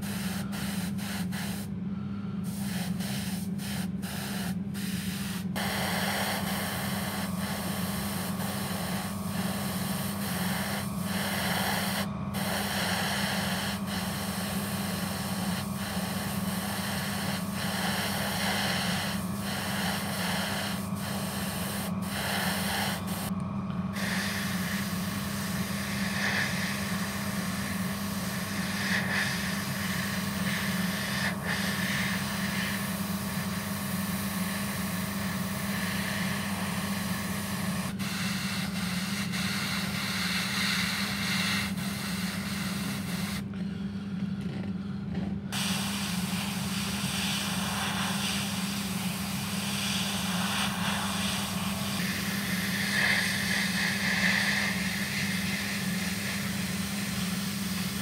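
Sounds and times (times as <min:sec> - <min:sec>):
airbrush spraying hiss: 0:00.0 - 0:01.8, 0:02.4 - 0:23.3, 0:23.9 - 0:43.5, 0:45.5 - 0:58.0.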